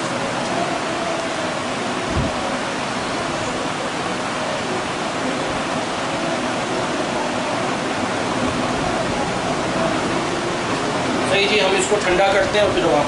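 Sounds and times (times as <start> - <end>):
electric fan blowing air: 0.0 - 13.0.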